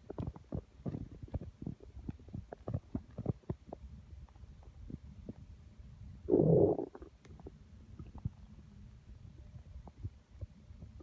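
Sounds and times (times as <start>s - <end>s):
stomach gurgling: 0.0s - 5.5s, 6.3s - 8.5s, 9.4s - 11.0s.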